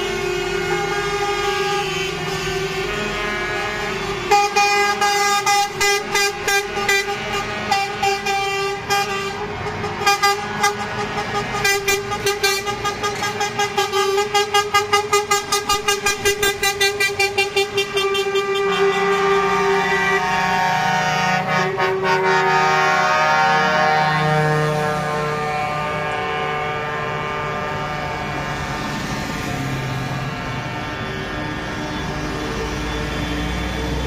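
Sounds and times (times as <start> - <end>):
truck horn held steady: 0.0 - 28.7
truck horns tooting: 0.0 - 34.0.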